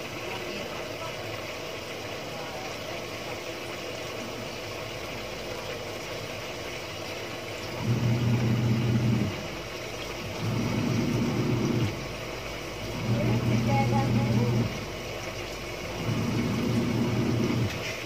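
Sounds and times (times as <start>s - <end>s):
washing machine motor humming: 0.0s - 18.0s
water pouring into washing machine: 0.0s - 18.0s.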